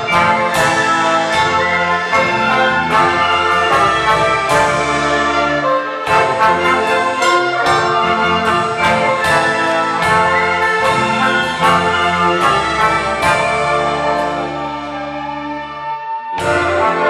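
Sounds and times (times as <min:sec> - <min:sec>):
brass section playing: 0:00.0 - 0:17.0
strings playing: 0:00.0 - 0:17.0.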